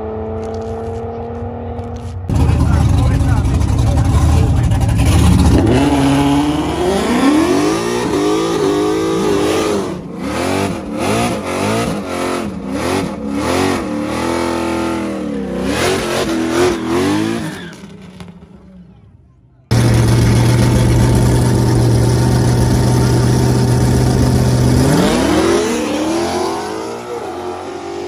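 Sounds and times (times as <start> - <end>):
car engine revving: 0.0 - 19.0, 19.7 - 28.0.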